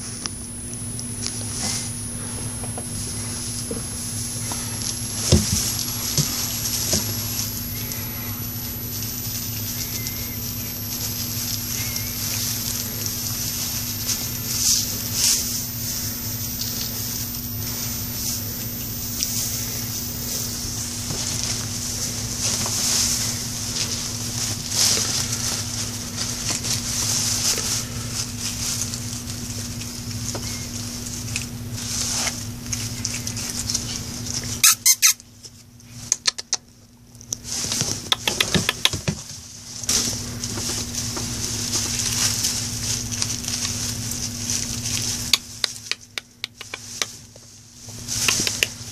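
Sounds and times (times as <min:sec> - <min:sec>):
steady low hum: 0:00.0 - 0:48.9
tinsel and cellophane crinkling: 0:01.4 - 0:35.6, 0:37.2 - 0:48.9.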